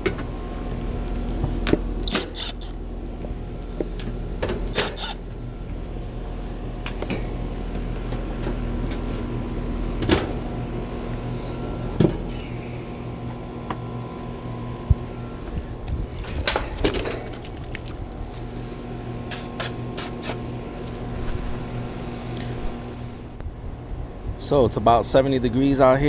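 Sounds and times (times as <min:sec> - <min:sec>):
heat pump units humming: 0:00.0 - 0:26.0.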